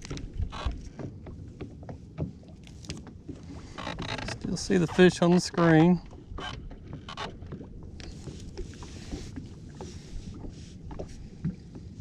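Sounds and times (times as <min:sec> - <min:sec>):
water around boat: 0:00.0 - 0:12.0
wind: 0:00.0 - 0:12.0.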